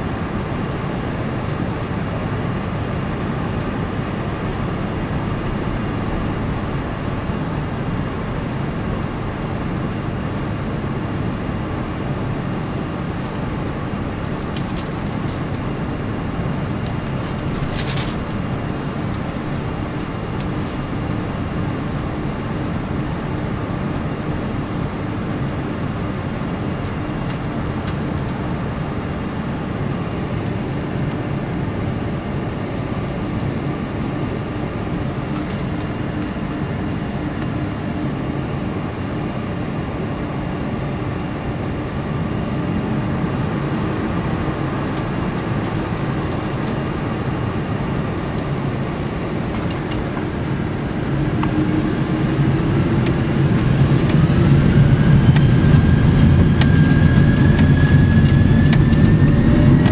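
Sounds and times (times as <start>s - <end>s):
jet engine noise in cabin: 0.0s - 59.9s.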